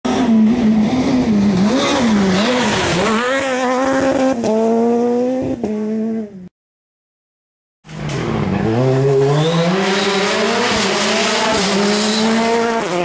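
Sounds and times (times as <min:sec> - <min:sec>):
race car engine revving: 0:00.1 - 0:06.3, 0:07.9 - 0:13.0.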